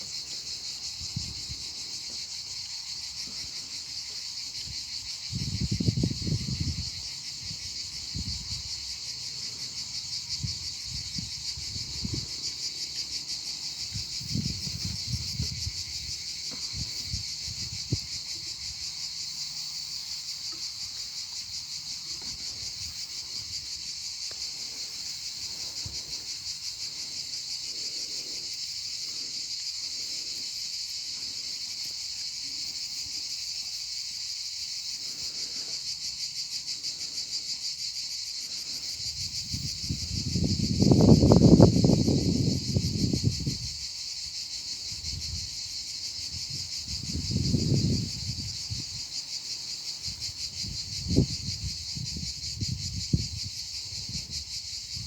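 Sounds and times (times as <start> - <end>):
insect chorus trilling: 0.0 - 55.0.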